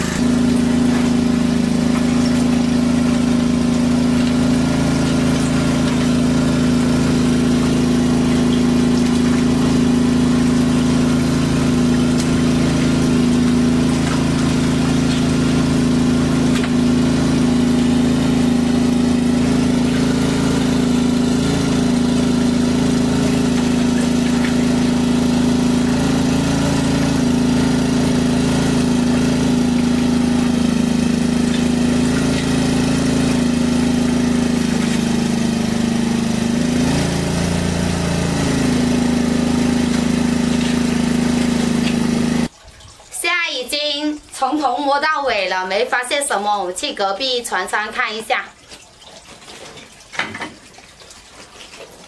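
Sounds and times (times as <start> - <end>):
water pump engine running: 0.0 - 52.0.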